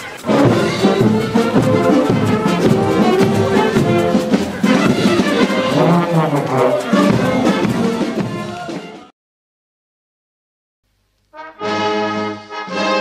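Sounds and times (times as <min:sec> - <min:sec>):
brass band playing: 0:00.0 - 0:09.1, 0:11.3 - 0:13.0.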